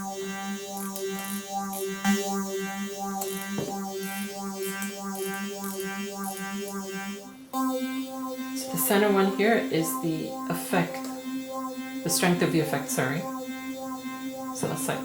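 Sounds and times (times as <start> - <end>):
synthesizer note with phaser sweep: 0.0 - 15.0.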